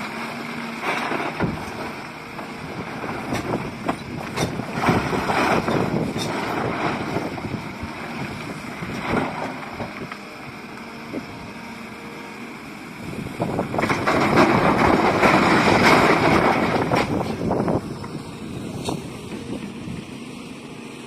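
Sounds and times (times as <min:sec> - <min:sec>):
excavator diesel engine and hydraulics: 0:00.0 - 0:21.0.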